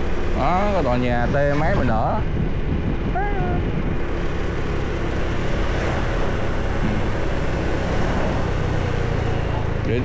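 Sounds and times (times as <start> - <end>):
vehicle and road noise: 0.0 - 10.0.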